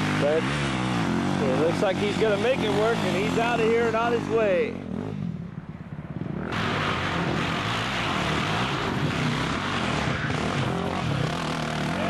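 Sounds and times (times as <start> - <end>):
dirt bike engines running: 0.0 - 12.0.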